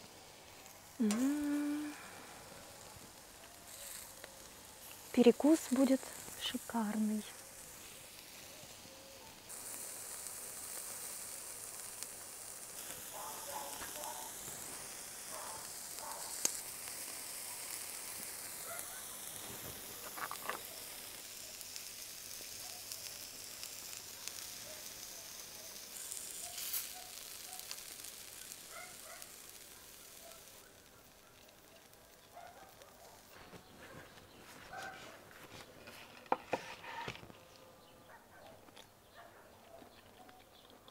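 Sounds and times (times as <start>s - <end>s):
meat sizzling on grill: 0.0s - 37.9s.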